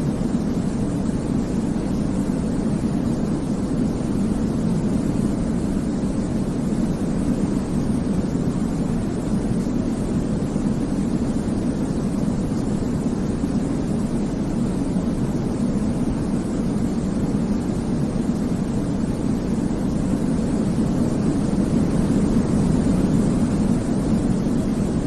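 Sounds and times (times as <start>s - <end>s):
deep white noise hiss: 0.0s - 25.0s.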